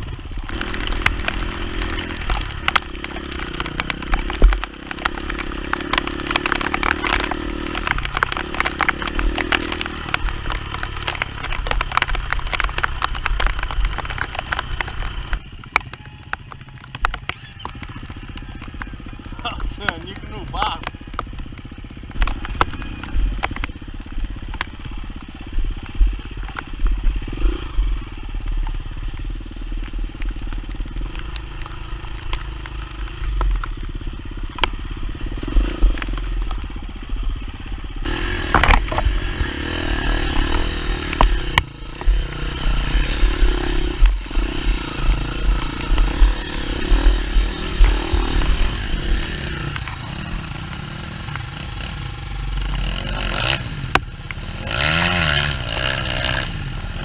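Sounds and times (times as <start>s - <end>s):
dirt bike engine: 0.0s - 57.0s
knocks and clatter from bike: 0.0s - 57.0s.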